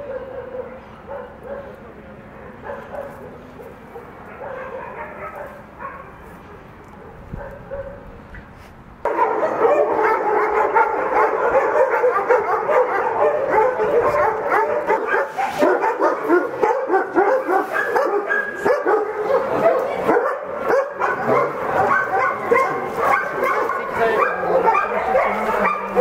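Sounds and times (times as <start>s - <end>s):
many dogs barking: 0.0s - 8.2s, 9.0s - 26.0s.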